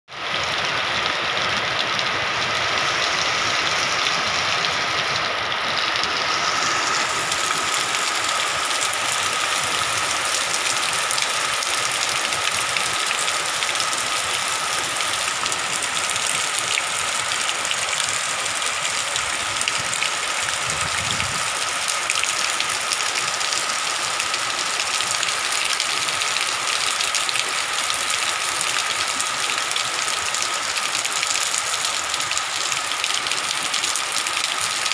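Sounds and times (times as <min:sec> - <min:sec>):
heavy rain on gravel and leaves: 0:00.1 - 0:34.9.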